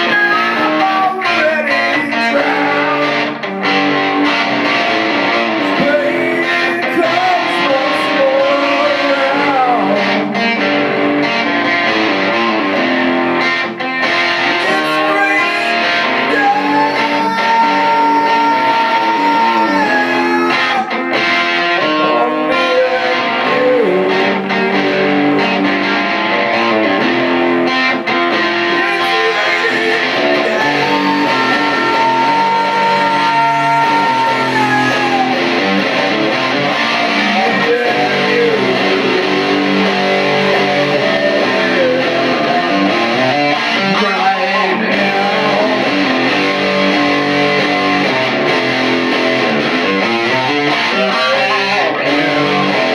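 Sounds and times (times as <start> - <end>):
electric guitar lead: 0.0 - 52.9
strummed guitar chords: 0.0 - 52.9.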